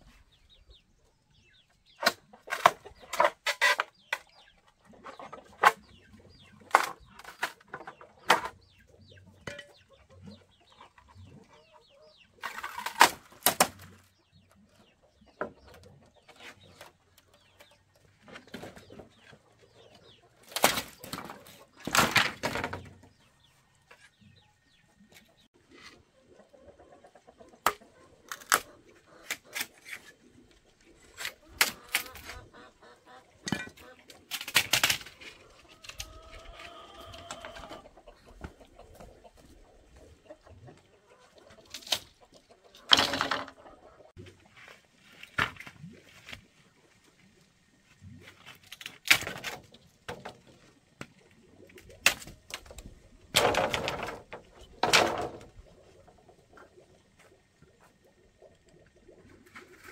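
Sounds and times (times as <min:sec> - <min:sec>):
chickens clucking: 0:00.0 - 0:45.3, 0:49.3 - 0:59.9.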